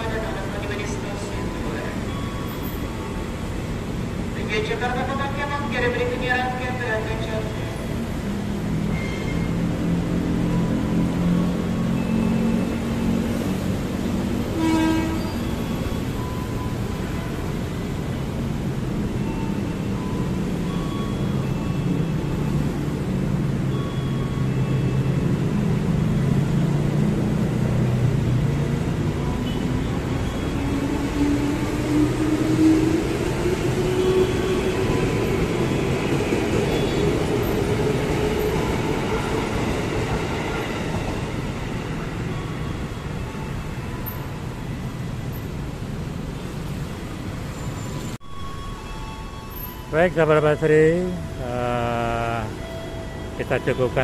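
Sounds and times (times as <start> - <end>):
electric train pulling away: 0.0 - 4.7, 7.3 - 54.0.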